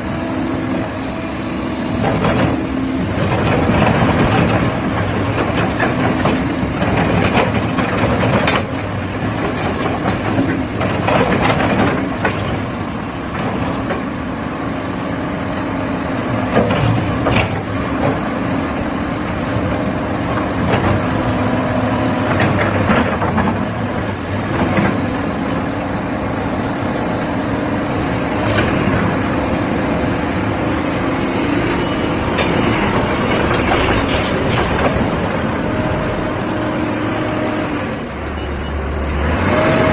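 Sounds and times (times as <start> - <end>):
diesel engine hum: 0.0 - 39.9.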